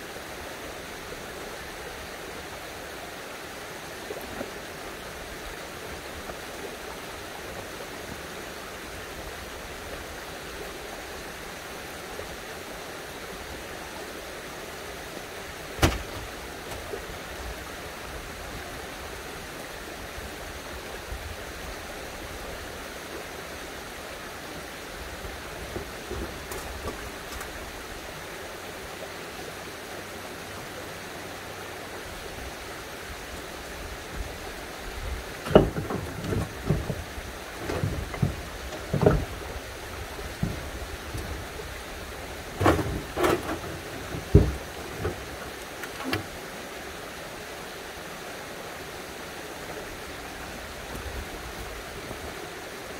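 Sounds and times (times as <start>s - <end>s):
running spring water: 0.0s - 52.9s.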